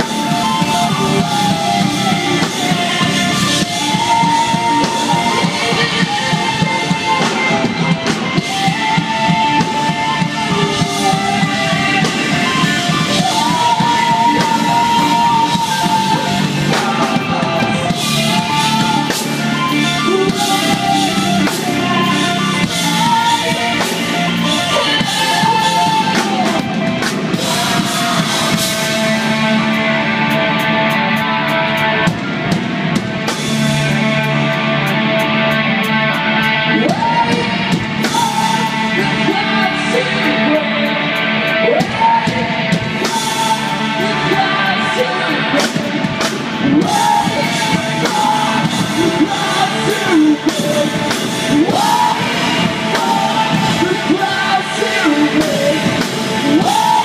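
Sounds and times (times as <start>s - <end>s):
drum kit with cymbals: 0.0s - 57.0s
electric guitars and bass: 0.0s - 57.0s
singer holding notes: 0.0s - 57.0s.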